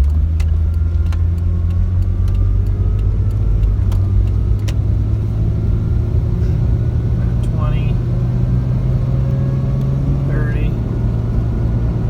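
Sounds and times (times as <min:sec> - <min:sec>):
tire road noise drone: 0:00.0 - 0:12.0.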